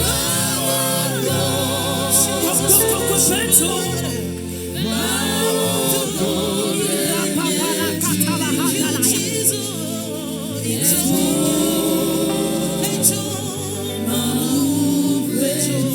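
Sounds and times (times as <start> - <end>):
voices singing together: 0.0 - 15.9.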